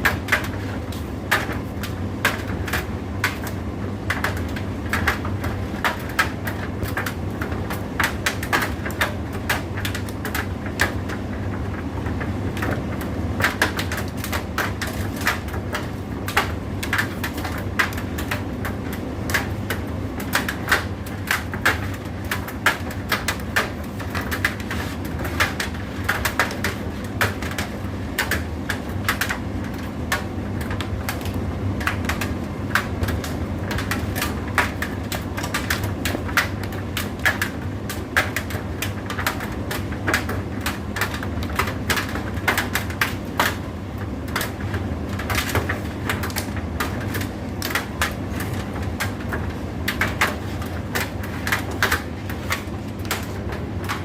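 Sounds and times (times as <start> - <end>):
tumble dryer motor hum: 0.0 - 54.0.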